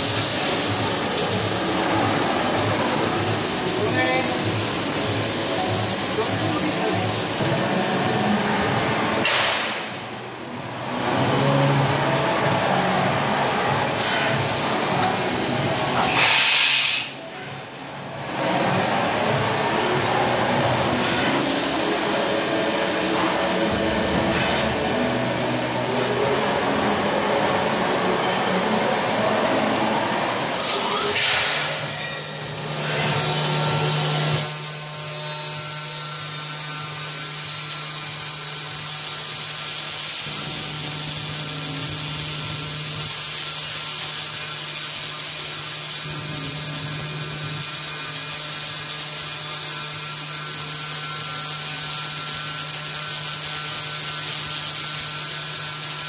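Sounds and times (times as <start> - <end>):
low machine hum: 0.0 - 16.1, 17.2 - 56.0
machine spindle high-pitched whine: 0.0 - 56.0.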